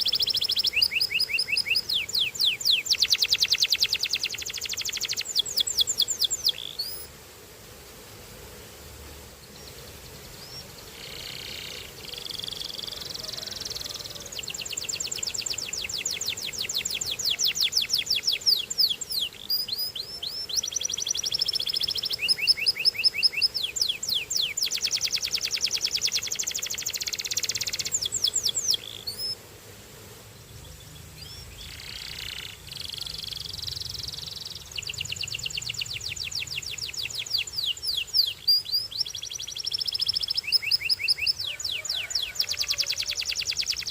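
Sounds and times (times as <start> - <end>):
canary singing trills: 0.0 - 7.1, 9.4 - 29.4, 30.4 - 43.9.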